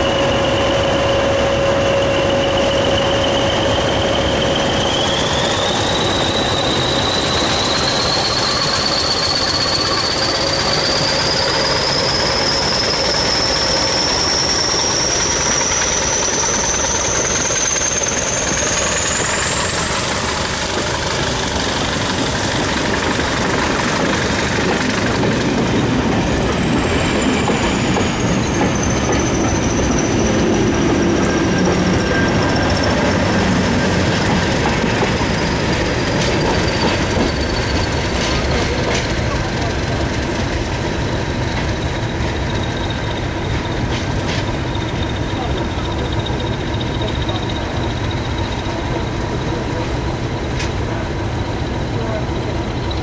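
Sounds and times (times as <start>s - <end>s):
diesel locomotive engine rumble: 0.0s - 53.0s
high-pitched whine: 0.0s - 53.0s
train coaches clattering over rails: 0.0s - 53.0s.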